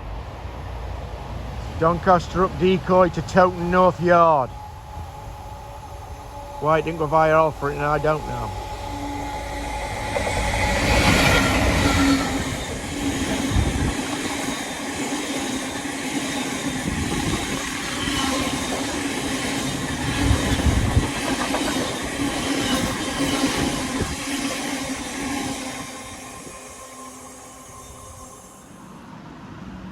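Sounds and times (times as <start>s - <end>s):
freight train wheels rumbling: 0.0s - 29.9s.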